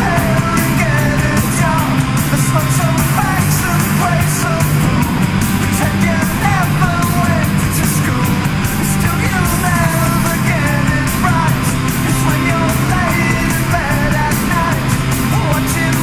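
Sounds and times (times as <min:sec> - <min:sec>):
rock music with singing: 0:00.0 - 0:16.0
steady drum beat: 0:00.0 - 0:16.0.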